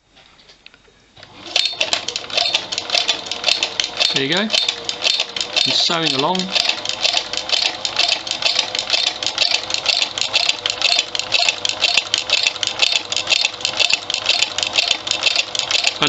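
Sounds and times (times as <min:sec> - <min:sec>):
sewing machine running: 0:01.2 - 0:16.0.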